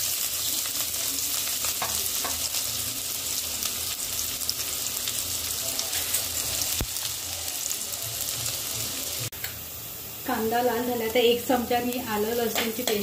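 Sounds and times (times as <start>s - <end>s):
onion sizzling in hot oil: 0.0s - 13.0s.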